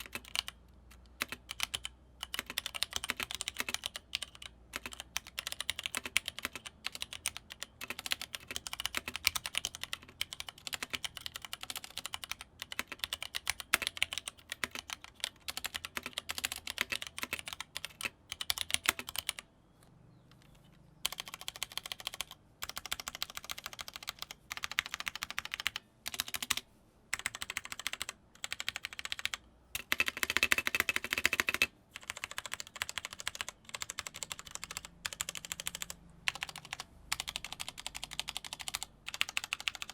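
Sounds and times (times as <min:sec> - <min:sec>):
mechanical keyboard typing: 0:00.0 - 0:19.5, 0:20.3 - 0:39.9.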